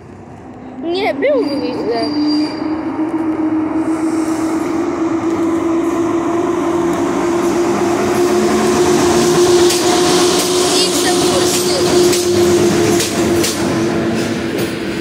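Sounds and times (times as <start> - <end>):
electric locomotive motor hum: 0.0 - 15.0
train rumbling on rails: 0.0 - 15.0.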